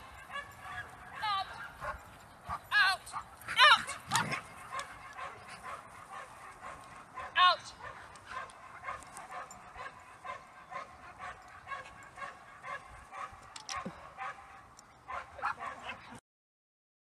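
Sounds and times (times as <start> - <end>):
dog barking and yipping: 0.0 - 16.2.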